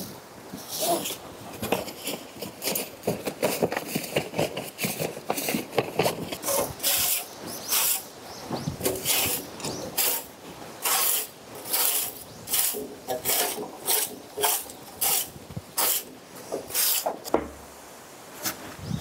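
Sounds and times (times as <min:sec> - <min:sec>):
rasping scraping strokes: 0:00.6 - 0:08.1, 0:08.8 - 0:17.3.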